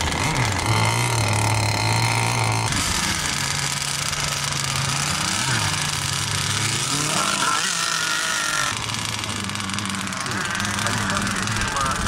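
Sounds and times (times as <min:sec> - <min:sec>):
high-pitched engine whine: 0:00.0 - 0:12.0
model boat engines buzzing: 0:00.0 - 0:12.0.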